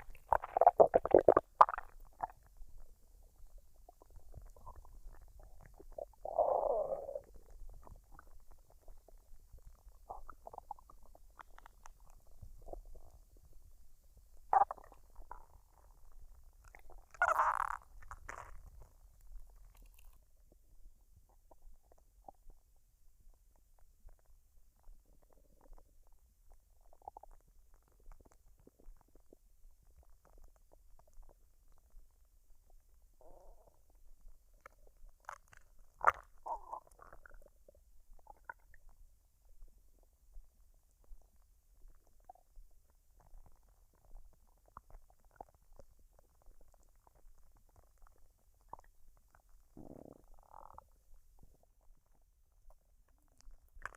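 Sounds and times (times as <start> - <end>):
stomach gurgling: 0.0 - 53.9.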